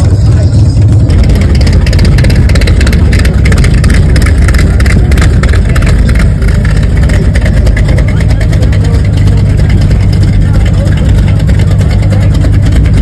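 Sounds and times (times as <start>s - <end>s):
car engine running loudly: 0.0s - 13.0s.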